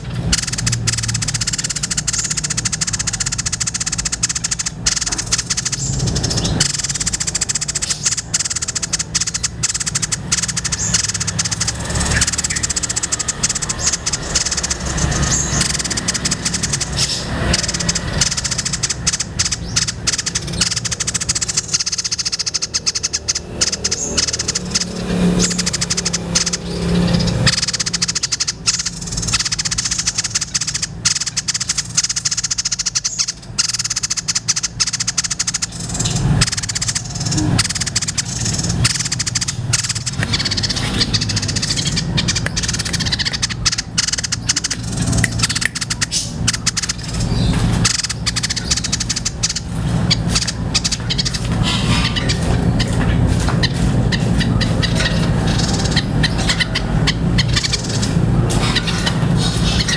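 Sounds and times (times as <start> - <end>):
bird singing rapid trills: 0.0 - 59.9
steady low hum: 0.0 - 59.9.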